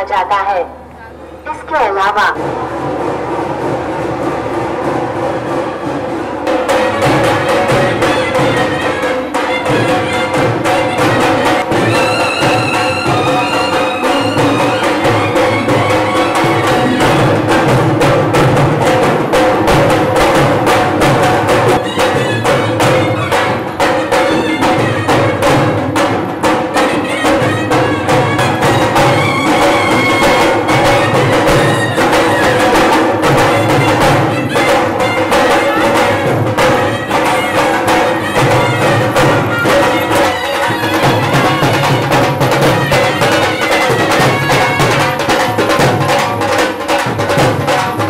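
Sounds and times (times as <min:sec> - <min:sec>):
fast drumming: 0:01.5 - 0:48.0
held melody line: 0:05.2 - 0:25.8, 0:26.6 - 0:46.2.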